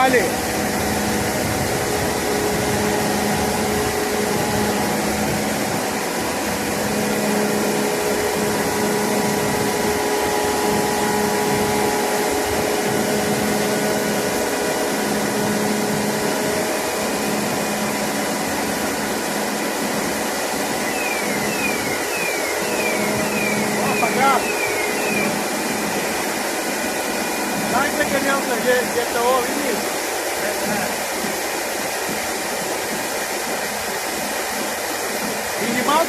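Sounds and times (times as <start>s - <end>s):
combine harvester running: 0.0s - 36.0s.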